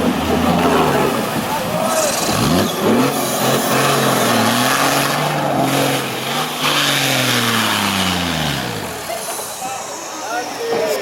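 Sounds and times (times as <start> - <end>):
engine revving hard and stalling: 0.0 - 9.4.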